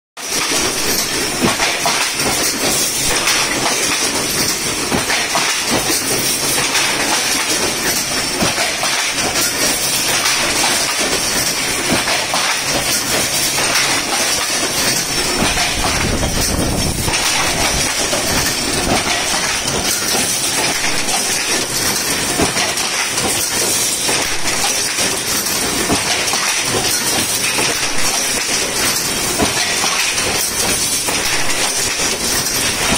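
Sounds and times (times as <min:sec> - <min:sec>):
loom mechanical clatter: 0:00.2 - 0:32.9.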